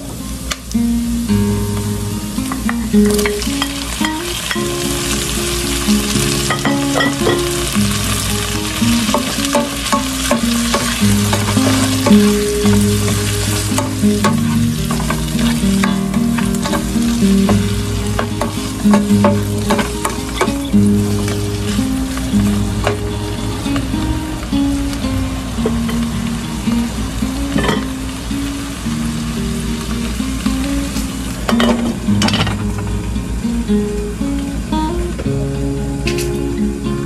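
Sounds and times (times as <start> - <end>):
meat sizzling in a pot: 0.0 - 36.6.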